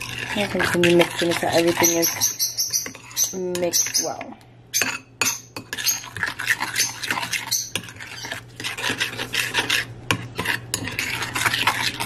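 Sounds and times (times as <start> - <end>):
spoon stirring paste in bowl: 0.0 - 12.0.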